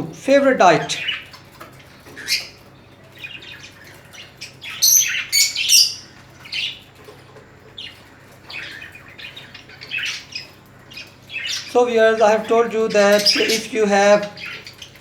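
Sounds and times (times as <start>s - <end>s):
small parrots chirping and squawking: 0.0s - 15.0s.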